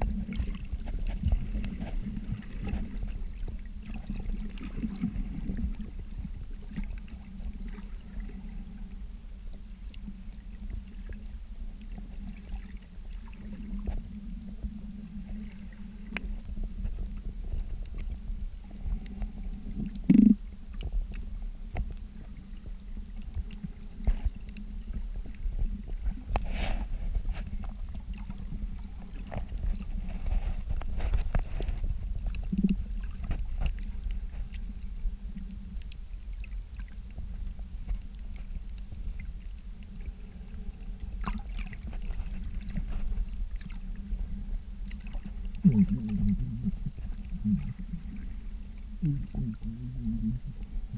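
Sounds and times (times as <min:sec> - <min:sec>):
underwater rumble of moving water: 0:00.0 - 0:50.9.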